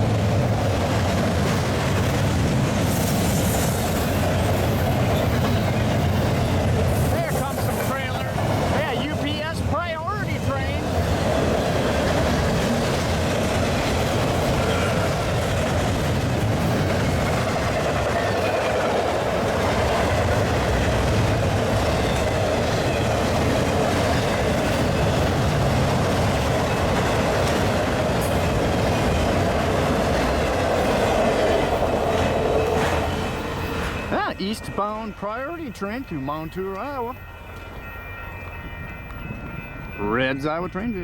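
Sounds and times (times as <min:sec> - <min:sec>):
freight train passing: 0:00.0 - 0:41.0.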